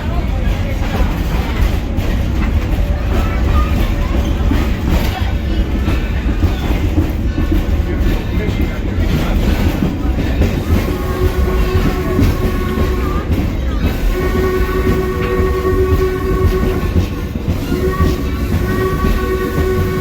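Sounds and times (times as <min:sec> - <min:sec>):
train low rumble: 0:00.0 - 0:20.0
wheels clacking over rails: 0:00.0 - 0:20.0.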